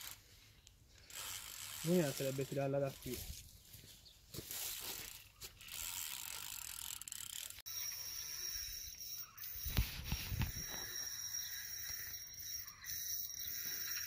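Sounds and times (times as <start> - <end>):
fishing reel ratcheting: 0.0 - 0.2, 0.9 - 3.3, 4.8 - 14.0.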